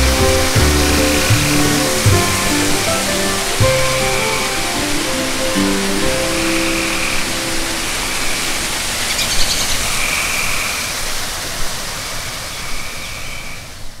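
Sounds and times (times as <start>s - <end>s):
flowing water rushing: 0.0s - 13.6s.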